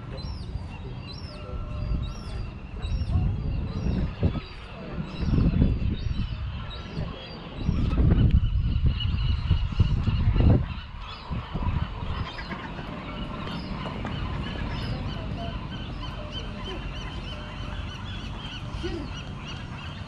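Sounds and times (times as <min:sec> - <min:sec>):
steady low rumble: 0:00.0 - 0:20.0
birds squawking: 0:00.1 - 0:20.0.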